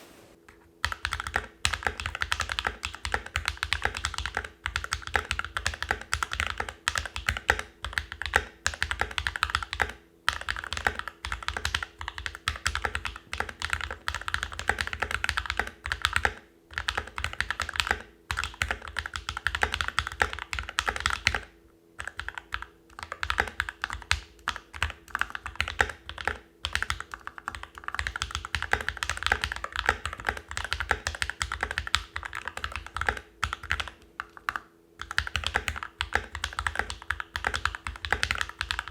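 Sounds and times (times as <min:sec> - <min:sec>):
mechanical keyboard typing: 0:00.8 - 0:38.9.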